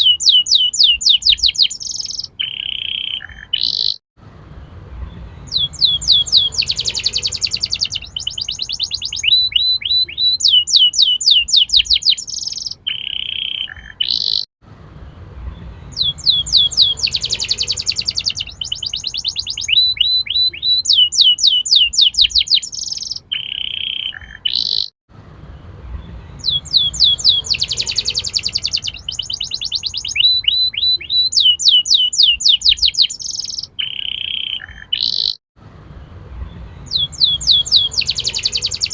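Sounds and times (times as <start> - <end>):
canary singing trills: 0.0 - 4.0, 5.0 - 14.5, 15.5 - 25.0, 25.9 - 35.4, 36.4 - 38.9.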